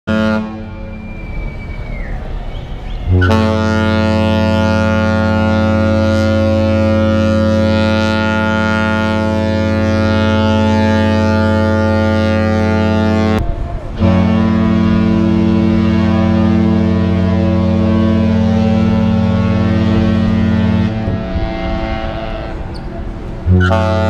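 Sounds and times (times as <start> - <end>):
ship horn long deep blast: 0.1 - 1.4, 2.8 - 24.0.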